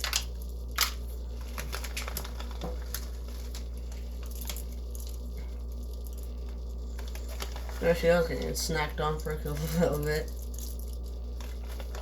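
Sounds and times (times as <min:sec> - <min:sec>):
small objects rustling and ticking: 0:00.0 - 0:12.0
steady low hum: 0:00.0 - 0:12.0.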